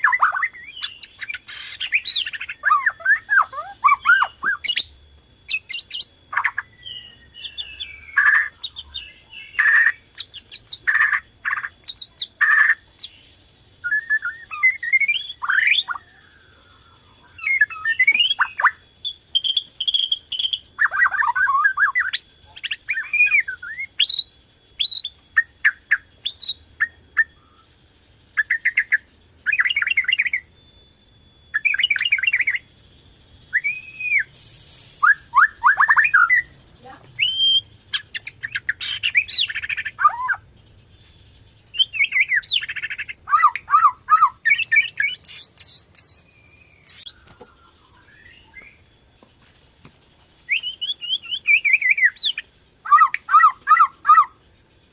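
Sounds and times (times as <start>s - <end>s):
songbird whistling song: 0.0s - 54.9s.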